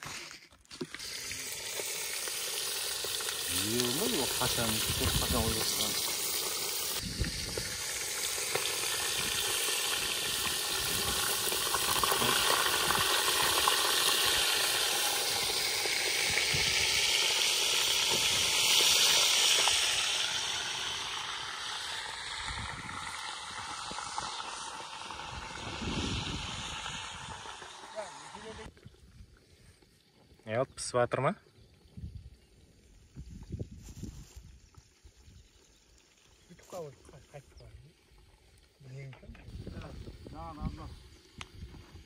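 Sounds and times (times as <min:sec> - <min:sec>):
food sizzling in hot oil: 0:00.0 - 0:28.7, 0:31.9 - 0:42.0.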